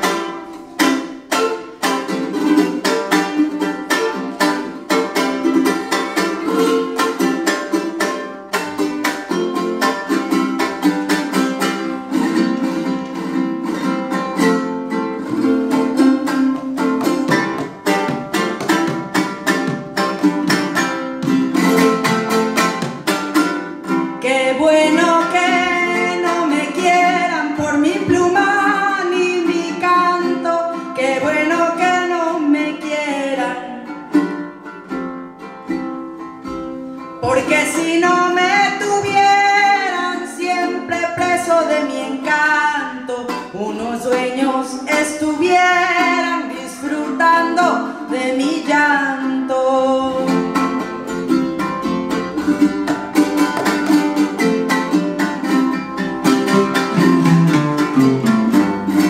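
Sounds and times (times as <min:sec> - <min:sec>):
strummed small guitars: 0:00.0 - 0:59.0.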